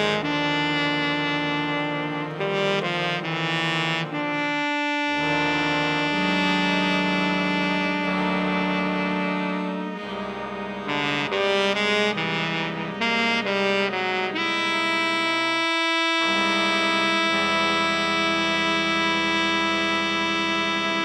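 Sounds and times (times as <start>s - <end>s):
jazz horns playing chords: 0.0s - 21.0s.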